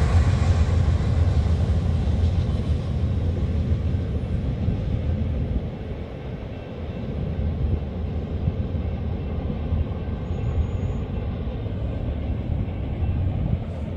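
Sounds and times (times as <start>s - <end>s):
freight train cars rumbling: 0.0s - 13.9s.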